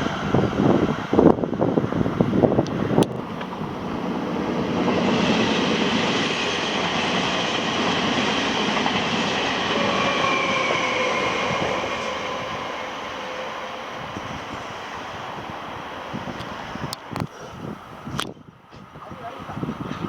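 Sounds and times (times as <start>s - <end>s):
train rolling on rails: 0.0s - 20.0s.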